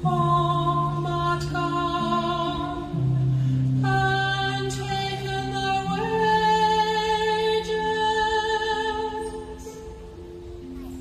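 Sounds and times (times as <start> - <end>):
slow song with singing: 0.0 - 11.0.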